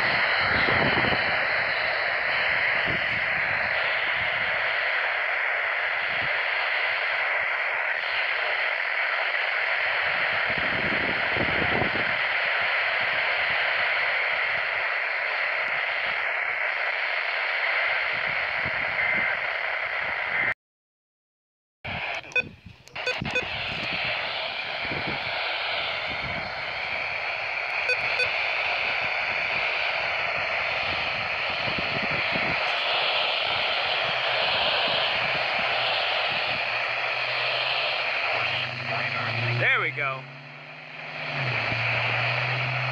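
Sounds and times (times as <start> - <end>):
radio static hiss: 0.0 - 20.6, 21.9 - 42.9.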